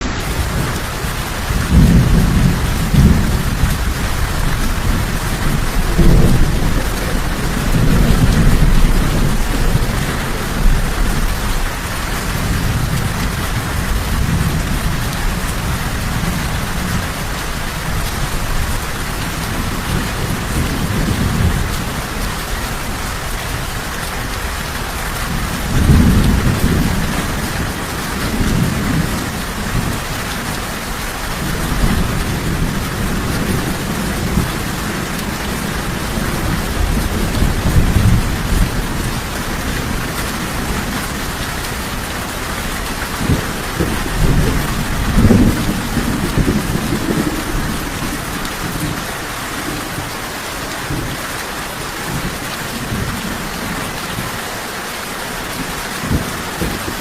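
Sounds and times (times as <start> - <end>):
thunder rumbling: 0.0 - 54.4, 55.5 - 57.0
steady rain falling: 0.0 - 57.0.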